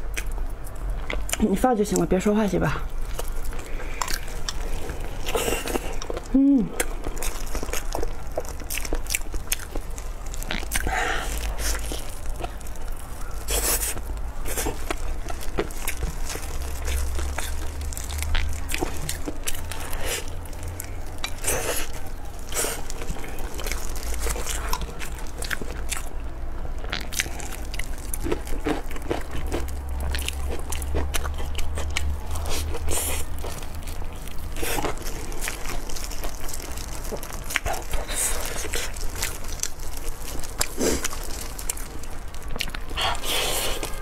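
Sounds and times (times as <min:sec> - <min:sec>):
chewing a crunchy fried bun: 0:00.0 - 0:44.0.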